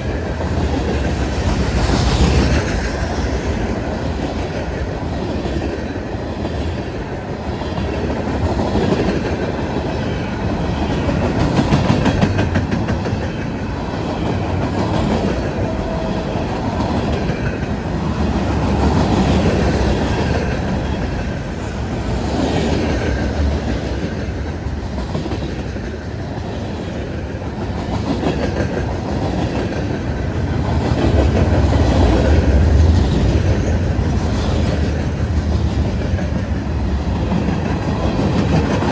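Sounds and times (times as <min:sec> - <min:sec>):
freight train rumble: 0:00.0 - 0:38.9
train wheels clacking on rail joints: 0:00.0 - 0:38.9.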